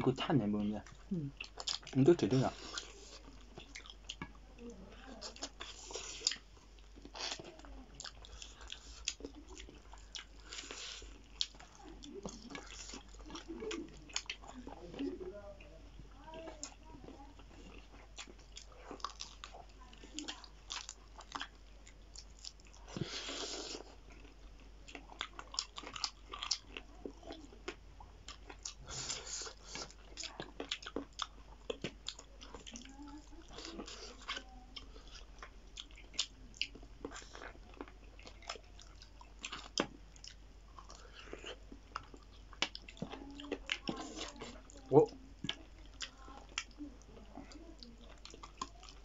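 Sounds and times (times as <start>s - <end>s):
wet chewing and biting: 0.8s - 15.1s, 16.4s - 49.0s.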